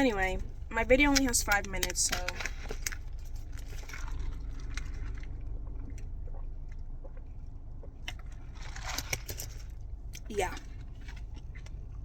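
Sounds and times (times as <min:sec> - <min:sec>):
person chewing food: 0:01.5 - 0:12.0.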